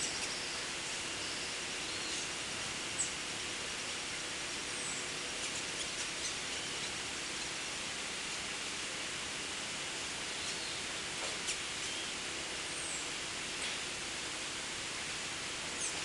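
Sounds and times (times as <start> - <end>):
small birds chirping faintly: 0.0 - 16.0
steady hiss: 0.0 - 16.0.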